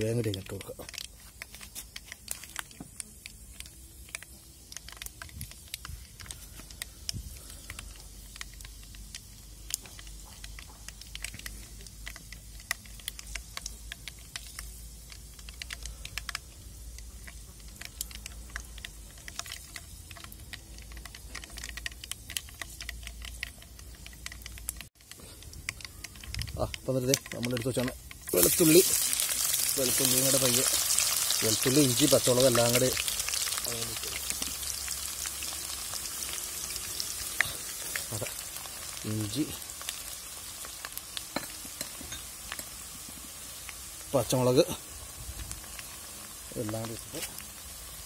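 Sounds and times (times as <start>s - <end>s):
seeds sizzling and crackling in oil: 0.0s - 48.0s.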